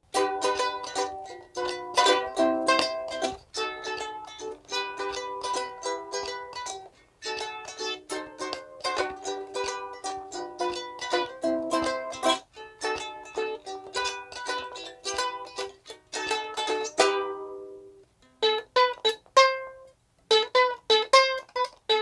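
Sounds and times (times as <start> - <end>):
ukulele chords strummed: 0.0 - 22.0.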